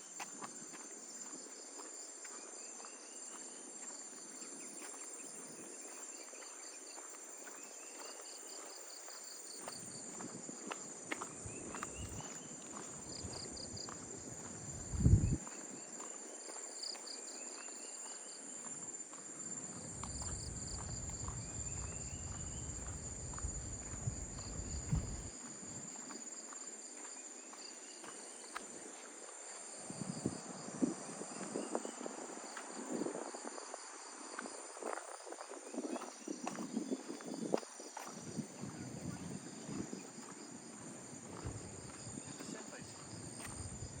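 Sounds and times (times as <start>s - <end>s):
footsteps: 5.9s - 43.8s.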